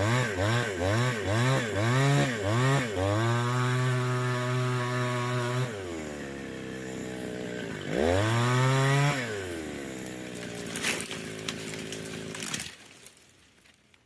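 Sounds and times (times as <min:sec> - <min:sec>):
chainsaw engine revving and idling: 0:00.0 - 0:12.8.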